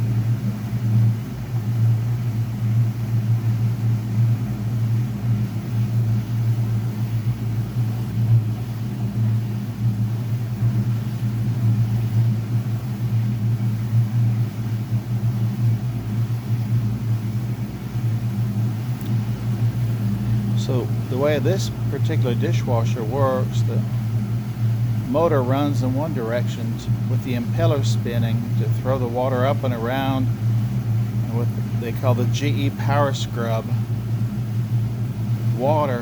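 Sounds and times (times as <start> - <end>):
dishwasher motor humming: 0.0 - 36.0.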